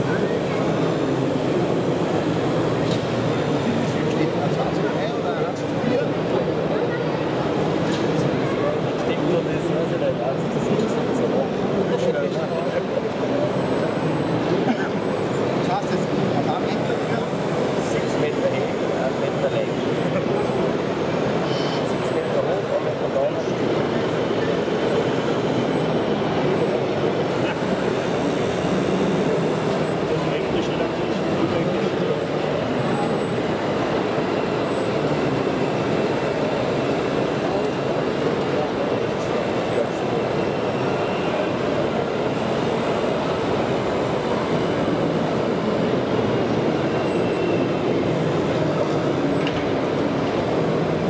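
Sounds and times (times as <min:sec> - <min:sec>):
busy exhibition hall din: 0:00.0 - 0:51.0.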